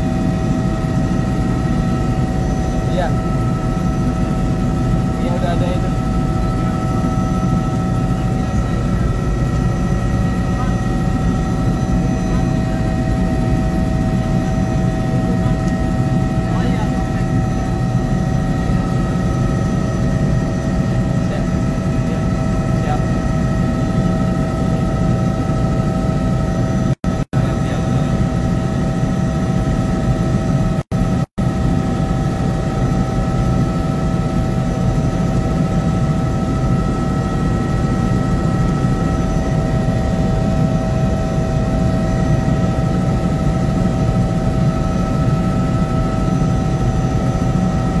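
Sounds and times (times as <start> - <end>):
helicopter rotor and engine rumble: 0.0 - 48.0.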